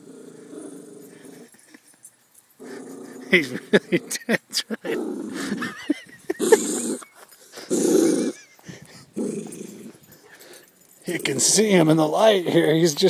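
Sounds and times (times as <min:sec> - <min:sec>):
dog growling: 0:00.0 - 0:01.6, 0:02.6 - 0:11.6.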